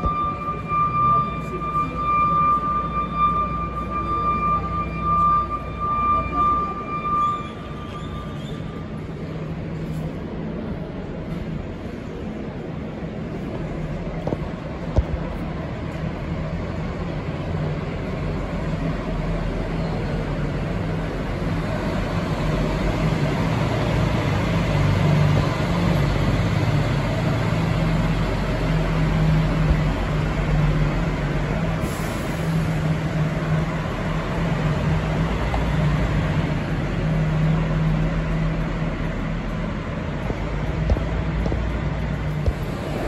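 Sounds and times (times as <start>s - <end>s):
diesel coach engine driving off: 0.0s - 43.0s.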